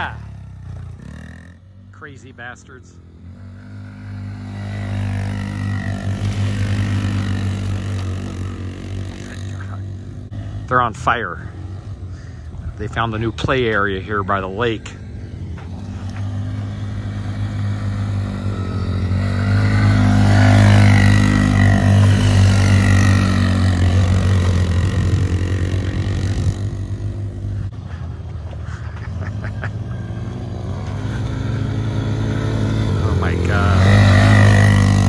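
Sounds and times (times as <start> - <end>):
atv engines revving: 0.0 - 35.0.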